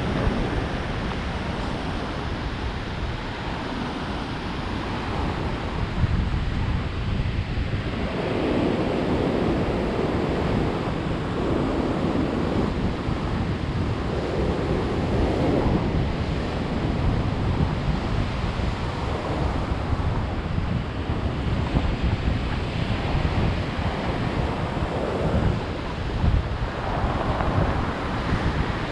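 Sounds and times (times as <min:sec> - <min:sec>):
ocean surf breaking: 0:00.0 - 0:28.9
wind buffeting microphone: 0:00.0 - 0:28.9.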